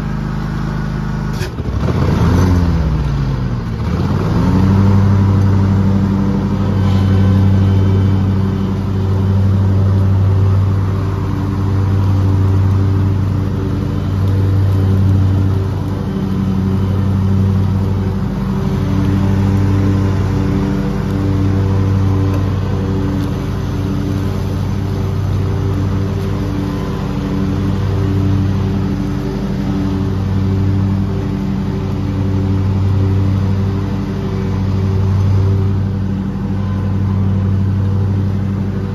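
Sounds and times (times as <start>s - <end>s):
engine running at high speed: 0.0s - 38.9s.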